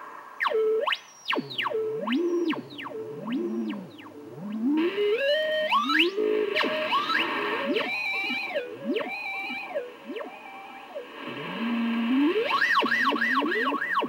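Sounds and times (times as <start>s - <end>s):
electronic instrument sliding tones: 0.5s - 14.0s.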